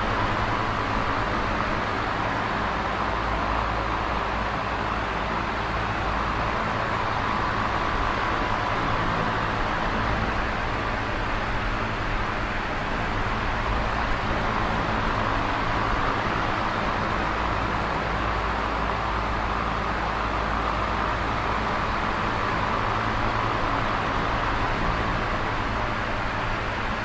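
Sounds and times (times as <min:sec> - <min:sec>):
electric fan whooshing air: 0:00.0 - 0:27.0.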